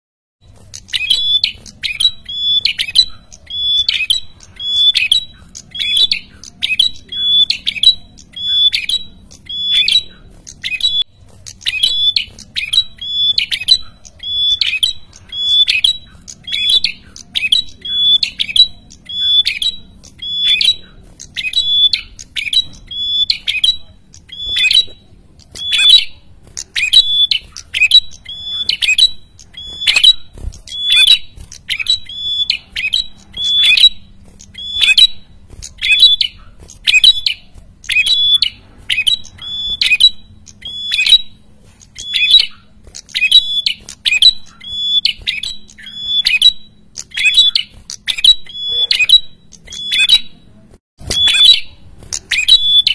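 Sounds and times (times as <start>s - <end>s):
bird calling harshly: 0.4s - 50.4s, 51.0s - 52.9s.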